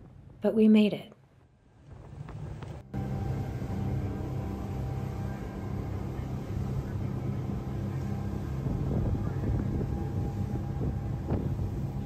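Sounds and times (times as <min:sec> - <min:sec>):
boat engine humming: 0:01.8 - 0:12.0.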